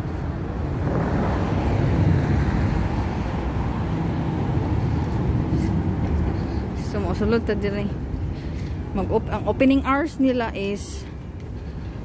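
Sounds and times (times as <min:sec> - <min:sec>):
roadside background rumble: 0:00.0 - 0:12.0.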